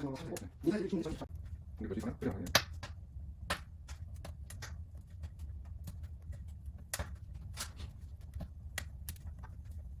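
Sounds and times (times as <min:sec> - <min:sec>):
low steady hum: 0:00.0 - 0:10.0
wood fire crackling and popping: 0:00.0 - 0:10.0.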